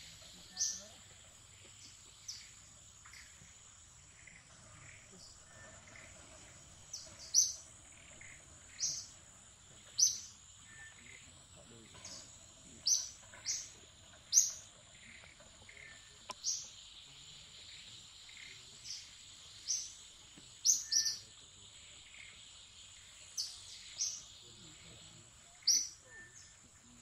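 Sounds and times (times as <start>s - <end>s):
birds chirping: 0.0s - 27.0s
insect drone: 0.0s - 27.0s.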